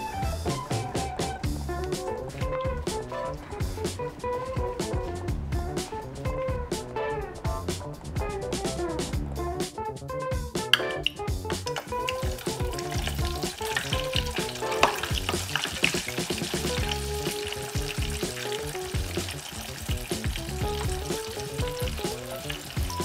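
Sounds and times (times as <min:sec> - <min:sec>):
oil sizzling and crackling: 0:00.0 - 0:10.0, 0:10.6 - 0:23.0
background music with bass: 0:00.0 - 0:23.0.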